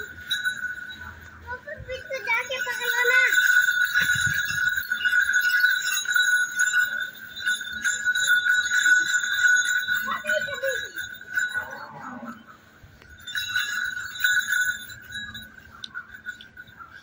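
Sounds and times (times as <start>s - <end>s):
small collar bells ringing: 0.0s - 17.0s.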